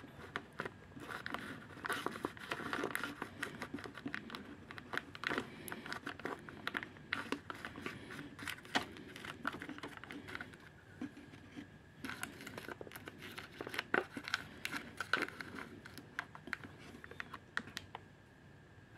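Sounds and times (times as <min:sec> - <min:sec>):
scratchy rustles: 0:00.0 - 0:17.4
screwdriver scraping plastic: 0:00.0 - 0:17.4.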